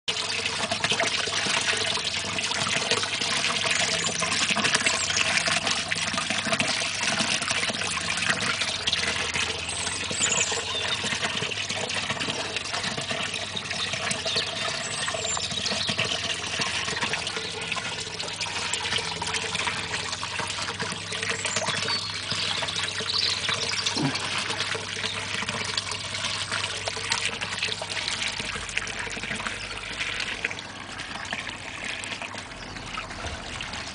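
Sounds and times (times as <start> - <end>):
water splashing and trickling: 0.1 - 33.9.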